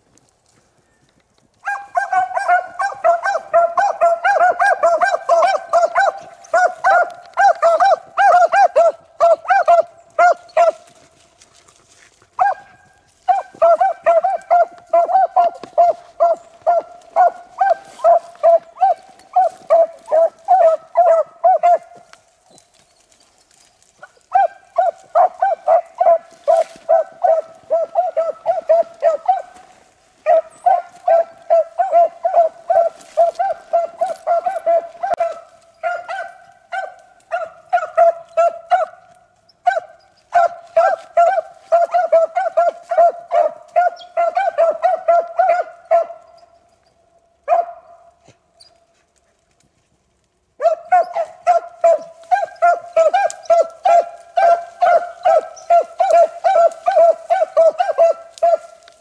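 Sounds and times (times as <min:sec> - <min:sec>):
hounds barking: 0:01.6 - 0:49.6, 0:50.5 - 0:59.0.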